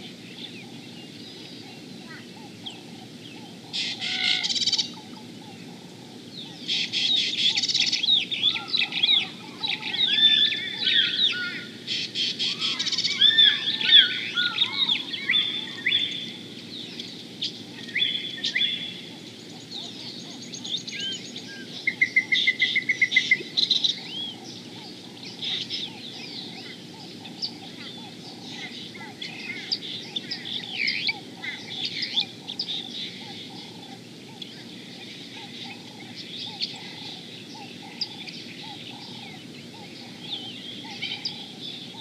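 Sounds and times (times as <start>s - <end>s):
birds chirping and whistling: 0.0s - 42.0s.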